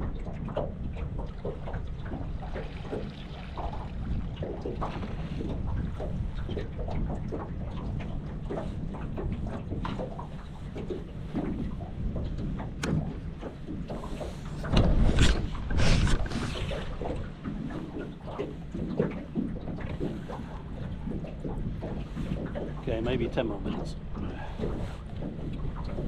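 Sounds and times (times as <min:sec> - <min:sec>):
water lapping against boat hull: 0:00.0 - 0:26.0
water splashes: 0:00.0 - 0:26.0
wind buffeting microphone: 0:00.0 - 0:26.0.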